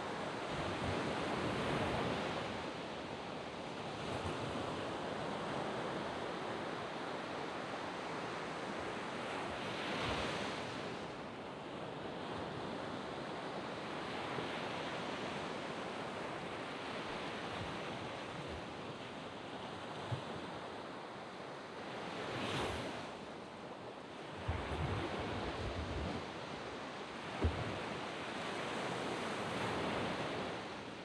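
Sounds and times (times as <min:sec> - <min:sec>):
waves washing up a sandy beach: 0:00.0 - 0:31.0.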